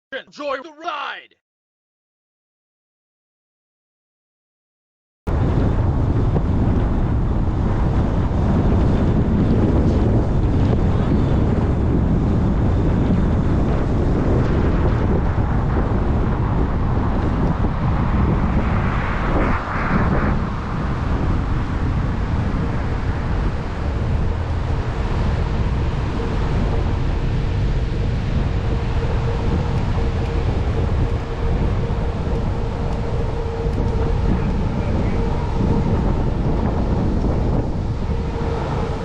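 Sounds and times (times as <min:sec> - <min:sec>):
wind noise: 0:05.3 - 0:39.0.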